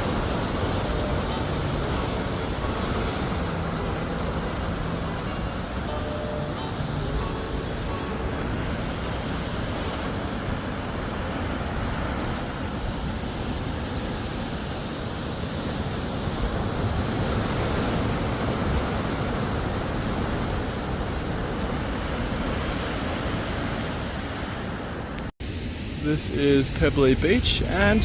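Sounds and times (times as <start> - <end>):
ocean surf: 0.0 - 28.0.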